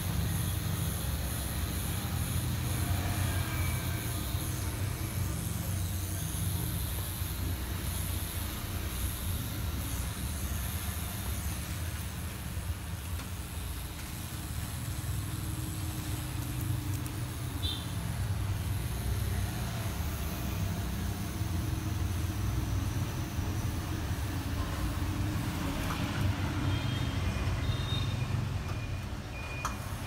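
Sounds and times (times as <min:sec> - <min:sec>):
tattoo machine buzzing: 0:00.0 - 0:28.6.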